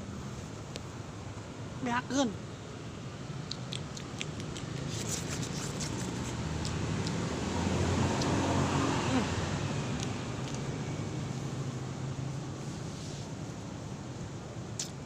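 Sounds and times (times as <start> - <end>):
low engine hum: 2.8 - 15.0.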